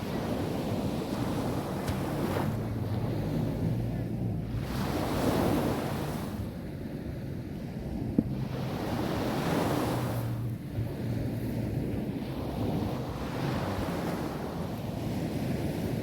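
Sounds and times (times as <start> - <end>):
sea waves breaking on a beach: 0.0 - 16.0
wind rumble on microphone: 0.0 - 16.0.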